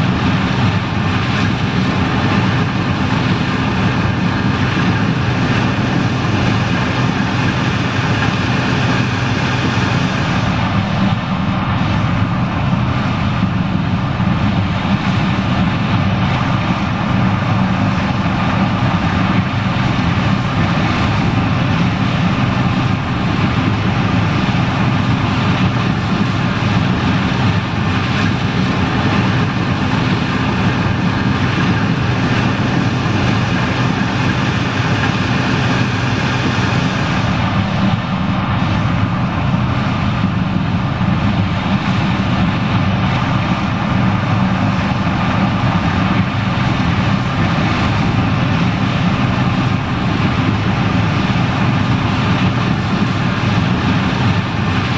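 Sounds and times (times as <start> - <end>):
combine harvester engine drone: 0.0 - 54.9
mechanical whine: 0.0 - 54.9.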